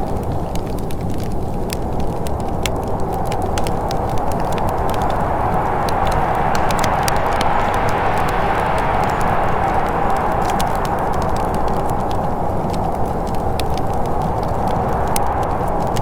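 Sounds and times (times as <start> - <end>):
wood fire crackling: 0.0 - 16.0
wind rushing: 1.8 - 16.0.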